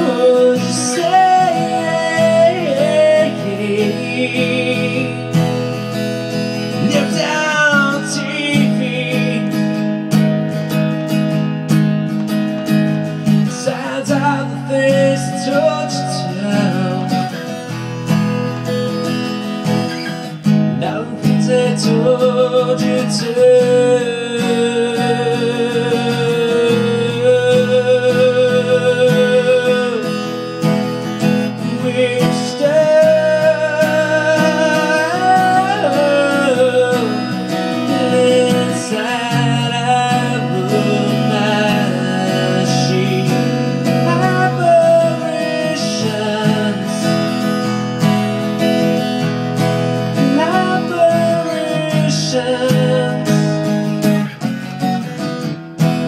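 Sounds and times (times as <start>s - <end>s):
man singing: 0.0s - 10.3s, 12.6s - 18.2s, 19.7s - 55.2s
acoustic guitar strumming: 0.0s - 56.0s.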